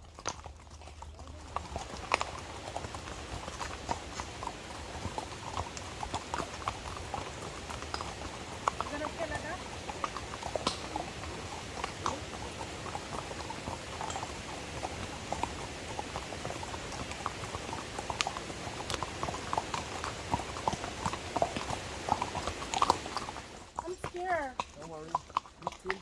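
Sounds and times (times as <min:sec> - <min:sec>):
horse hooves clopping: 0:00.0 - 0:26.0.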